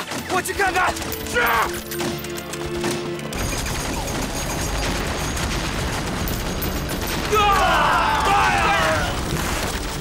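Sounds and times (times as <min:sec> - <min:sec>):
dramatic music score: 0:00.0 - 0:10.0
rapid gunfire and blasts: 0:00.0 - 0:10.0.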